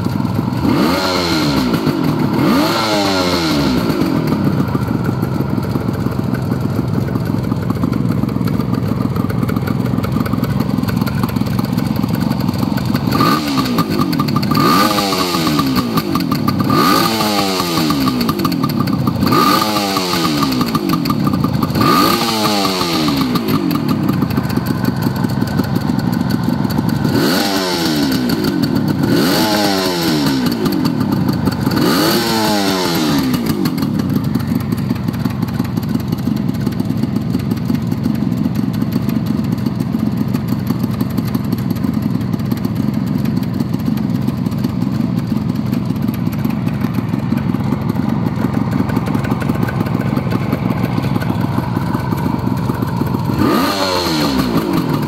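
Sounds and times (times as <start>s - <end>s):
two-stroke engine idling and revving: 0.0s - 55.0s.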